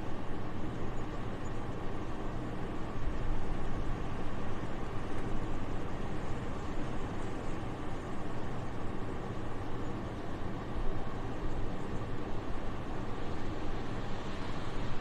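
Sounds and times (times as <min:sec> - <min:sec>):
soft steady wind: 0:00.0 - 0:15.0.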